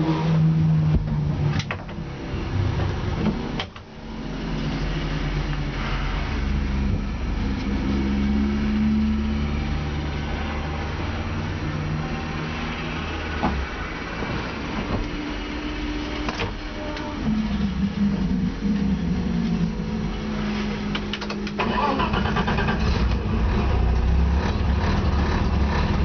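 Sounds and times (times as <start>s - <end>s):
car engine running at low revs: 0.1s - 16.6s, 17.2s - 21.6s.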